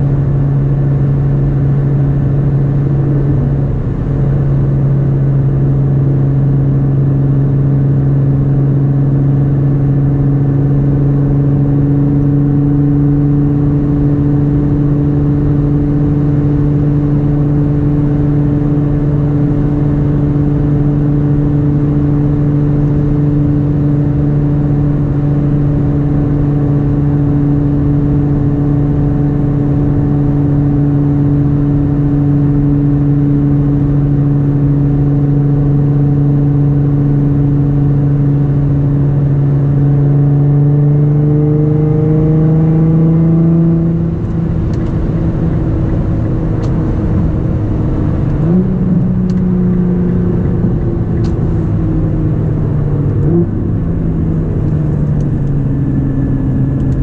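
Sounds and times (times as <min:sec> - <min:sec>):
car exhaust drone: 0:00.0 - 0:57.0.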